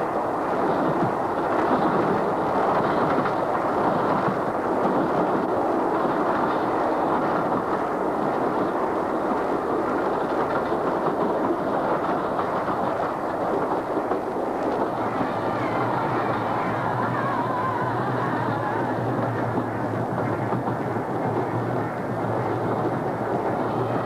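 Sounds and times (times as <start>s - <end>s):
steady rushing rumble: 0.0s - 24.0s.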